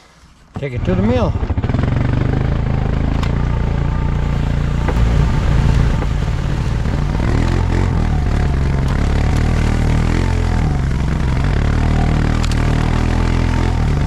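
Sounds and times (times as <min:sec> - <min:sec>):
atv engine running: 0:00.8 - 0:14.0.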